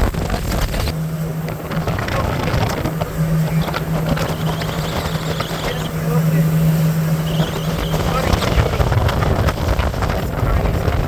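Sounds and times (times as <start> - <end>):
outboard motor droning: 0.0 - 11.0
rushing wind: 0.0 - 11.0
water rushing: 0.0 - 11.0.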